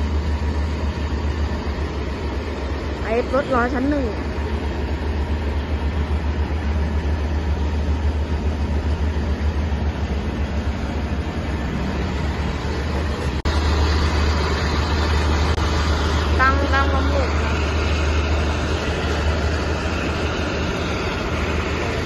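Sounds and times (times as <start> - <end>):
diesel train engine idling: 0.0 - 22.0.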